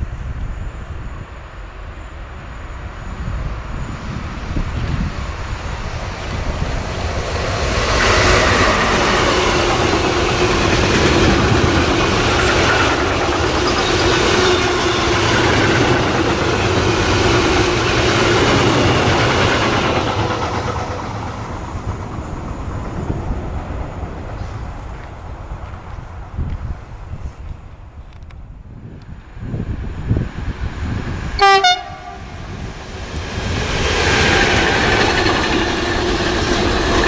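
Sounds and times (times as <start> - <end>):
freight train passing at speed: 0.0 - 37.0.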